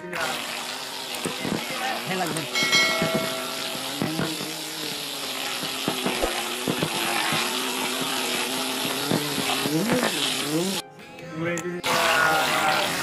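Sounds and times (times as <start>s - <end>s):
small motor buzzing: 0.0s - 10.9s.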